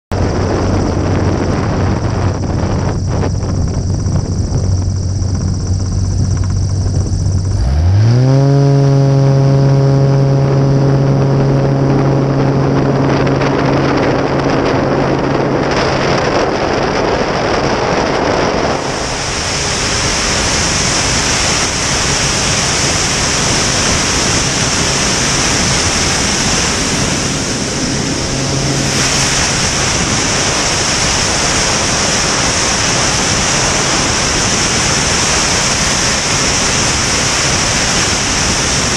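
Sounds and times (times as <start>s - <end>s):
propeller plane engine: 0.1s - 38.9s
wind rushing over microphone: 0.1s - 38.9s.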